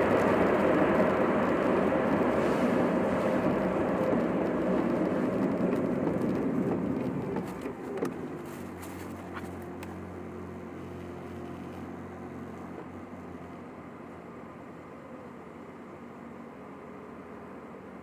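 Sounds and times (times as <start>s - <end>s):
low engine hum: 0.0s - 18.0s
road and tyre noise: 0.0s - 18.0s.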